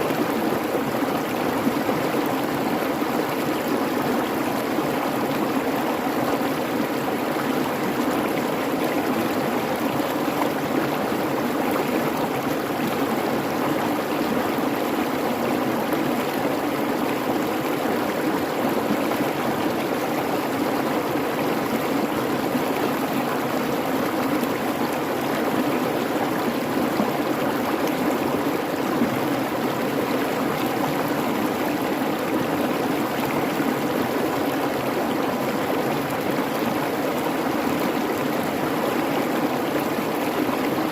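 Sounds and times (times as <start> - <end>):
creek babbling: 0.0 - 40.9.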